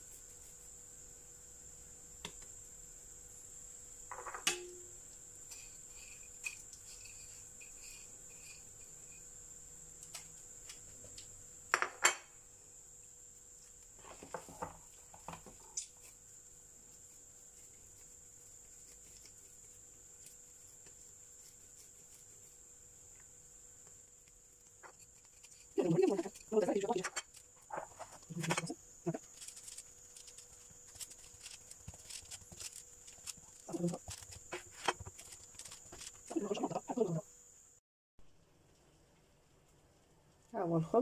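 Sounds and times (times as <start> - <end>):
faint high-pitched whine: 0.0 - 41.0.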